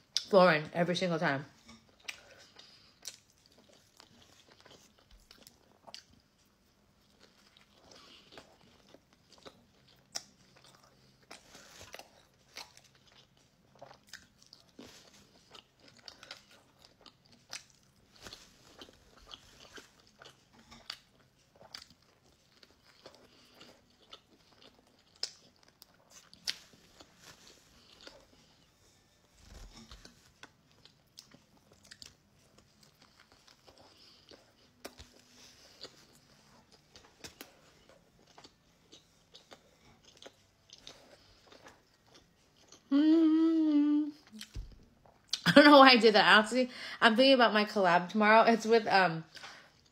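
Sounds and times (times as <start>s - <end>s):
chewing crunchy bread: 1.2s - 43.0s, 44.2s - 45.5s, 49.3s - 49.9s.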